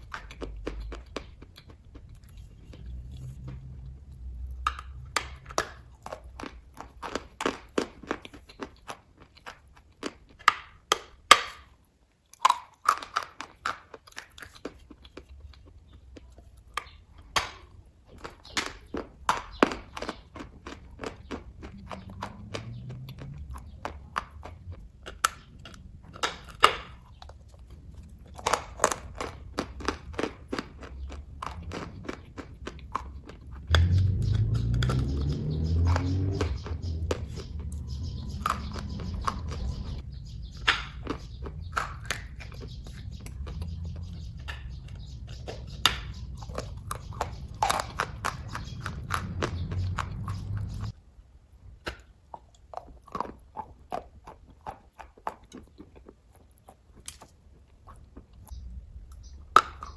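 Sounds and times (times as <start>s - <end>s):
close-miked chewing: 0.0s - 59.9s.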